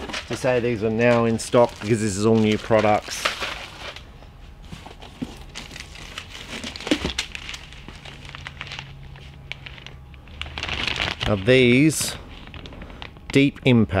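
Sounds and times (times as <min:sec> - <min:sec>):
plastic wrapping crinkling: 0:00.0 - 0:04.1, 0:05.0 - 0:13.8.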